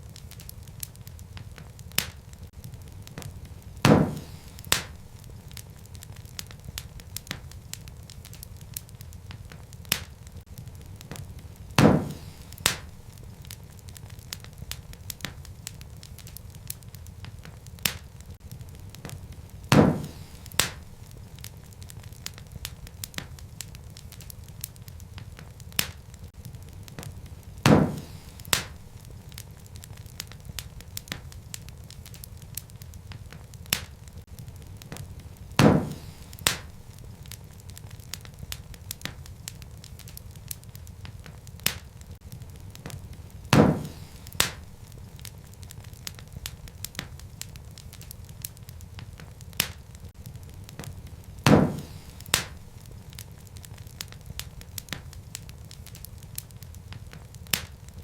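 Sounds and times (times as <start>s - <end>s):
fire flames rumbling: 0.0s - 58.0s
logs crackling and popping: 0.0s - 58.0s.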